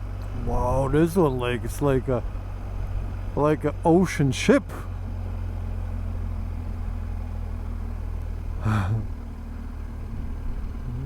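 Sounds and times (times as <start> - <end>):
motorcycle engine humming: 0.0 - 11.0.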